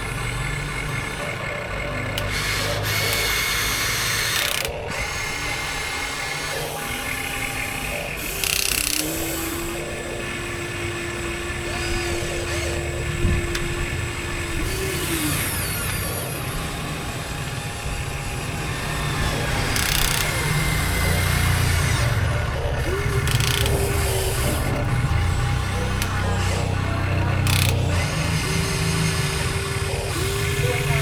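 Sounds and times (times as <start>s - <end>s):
plastic gears grinding: 0.0s - 31.0s
small electric motor whining: 0.0s - 31.0s.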